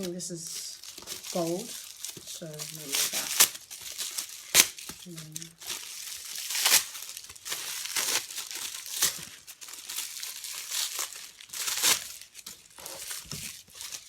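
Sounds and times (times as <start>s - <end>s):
packaging wrap crinkling: 0.0s - 14.0s.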